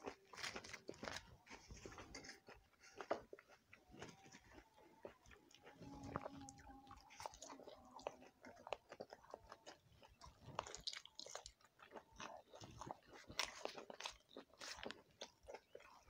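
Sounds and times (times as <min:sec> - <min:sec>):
close chewing: 0:00.0 - 0:16.0.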